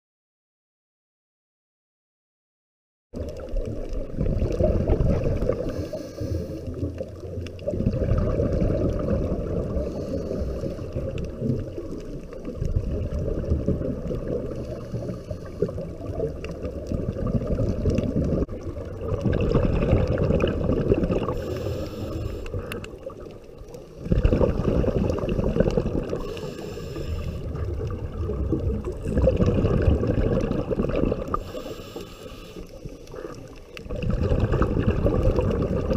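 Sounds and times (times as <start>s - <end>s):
underwater bubbles gurgling: 3.2s - 35.9s.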